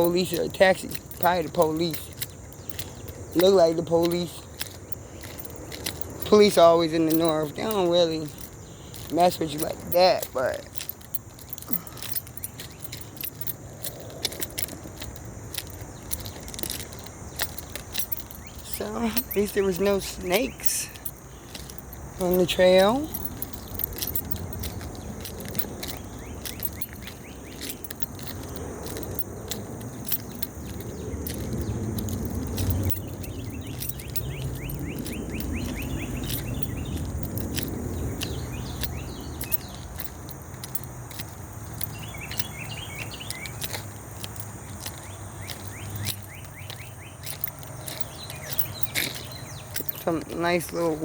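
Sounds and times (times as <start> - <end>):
birds chirping: 0.0 - 51.0
footsteps crunching on gravel: 0.0 - 51.0.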